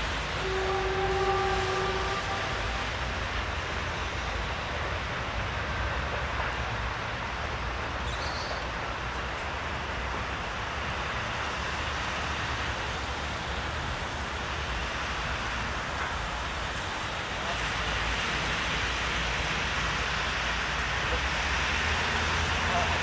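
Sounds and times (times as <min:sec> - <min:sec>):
vehicle noise rumble and hiss: 0:00.0 - 0:23.0.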